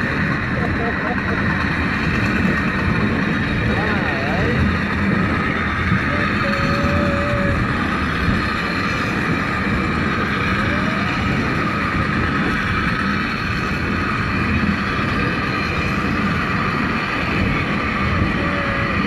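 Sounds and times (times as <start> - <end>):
high whine: 0.0 - 19.0
wheels rumbling on rails: 0.0 - 19.0.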